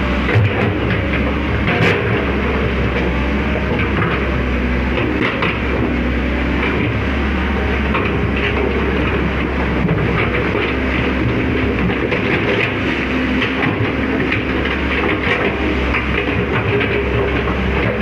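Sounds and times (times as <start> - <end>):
diesel engine running under load: 0.0 - 18.0.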